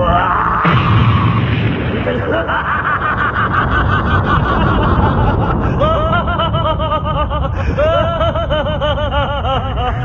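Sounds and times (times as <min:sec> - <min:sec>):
low rumbling sound effect: 0:00.0 - 0:08.8.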